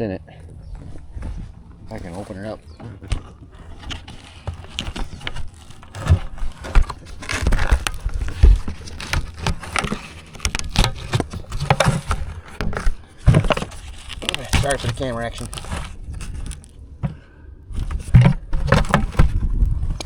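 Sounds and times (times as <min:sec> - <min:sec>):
camera rubbing and knocking: 0:00.4 - 0:17.2, 0:17.8 - 0:20.0
plastic bucket knocks and scrapes: 0:01.1 - 0:16.0, 0:17.8 - 0:20.0.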